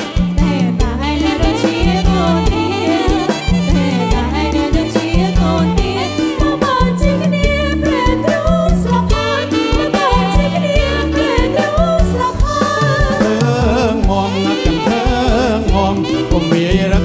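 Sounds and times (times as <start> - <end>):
live band dance song: 0.0 - 17.0.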